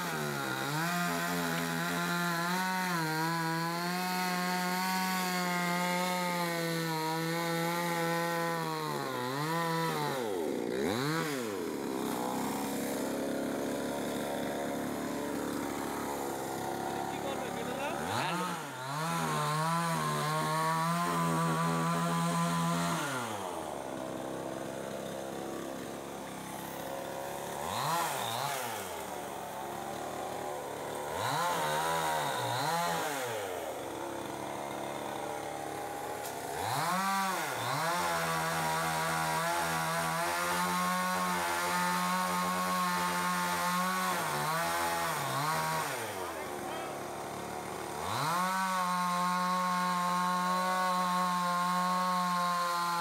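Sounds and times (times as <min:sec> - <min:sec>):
chainsaw engine revving and idling: 0:00.0 - 0:53.0.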